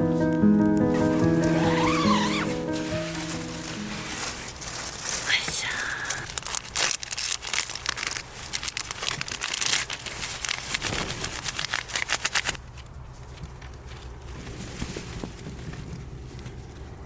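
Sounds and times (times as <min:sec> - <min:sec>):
dense crinkling and crackling: 0:00.0 - 0:17.0.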